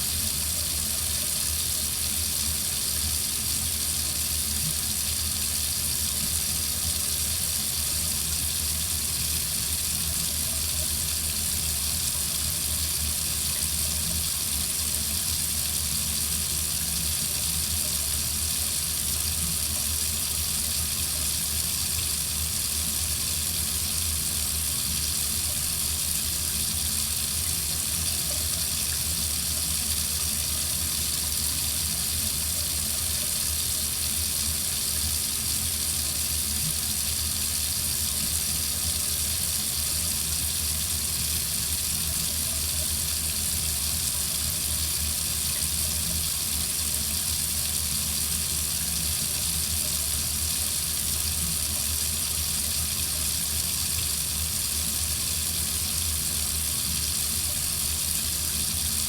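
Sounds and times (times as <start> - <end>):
water faucet running: 0.0 - 59.0.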